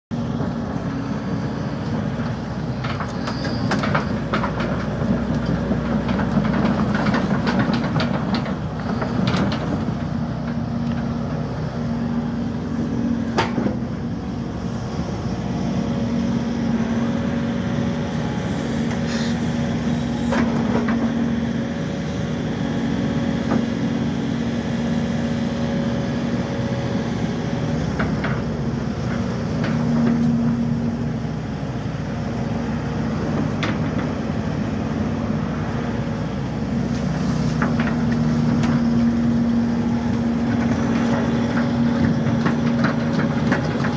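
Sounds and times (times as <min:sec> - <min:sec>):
excavator diesel engine running: 0:00.1 - 0:43.9.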